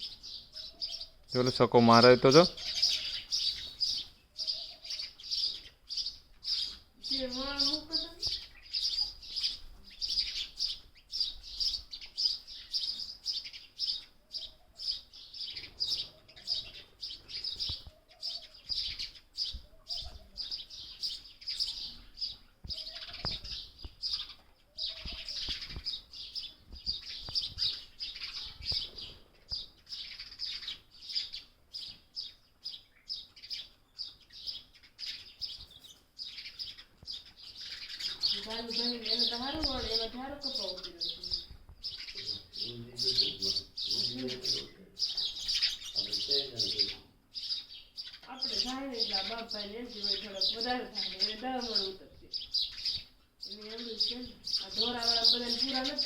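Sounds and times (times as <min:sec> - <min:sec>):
young sparrow chirping: 0:00.0 - 0:56.0.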